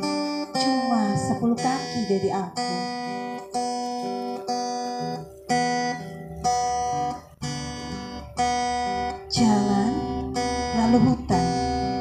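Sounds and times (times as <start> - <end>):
acoustic guitar slow chords: 0.0 - 12.0.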